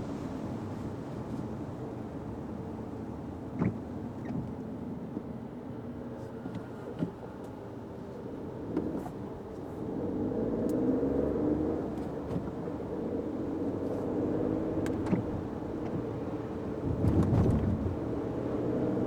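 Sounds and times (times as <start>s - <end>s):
car engine and tyre hum: 0.0s - 19.0s.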